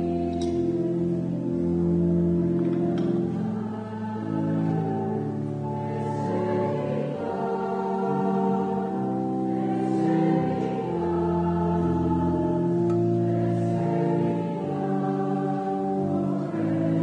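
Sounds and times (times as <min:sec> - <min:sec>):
voices singing slow hymn: 0:00.0 - 0:17.0.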